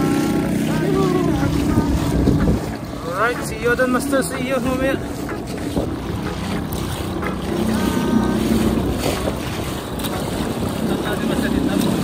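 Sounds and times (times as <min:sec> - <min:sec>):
boat motor running: 0:00.0 - 0:12.0
water noise: 0:00.0 - 0:12.0
wind buffeting microphone: 0:00.0 - 0:12.0.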